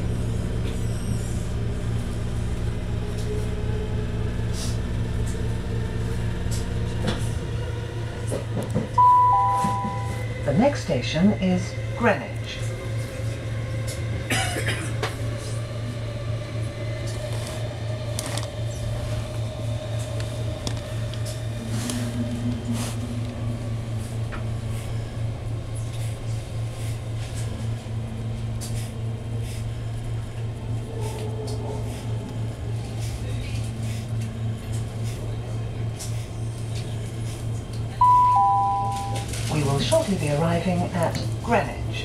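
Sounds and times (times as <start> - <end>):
train carriage hum: 0.0 - 42.0.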